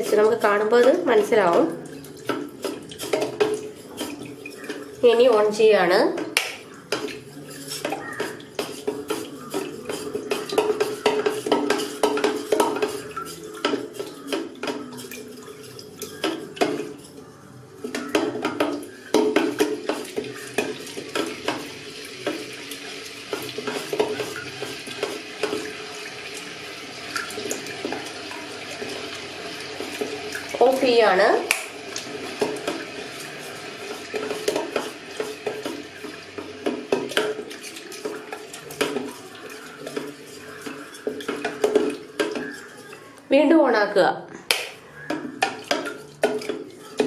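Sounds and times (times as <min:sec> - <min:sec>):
ladle scraping kettle: 0:00.0 - 0:05.6, 0:06.8 - 0:43.2.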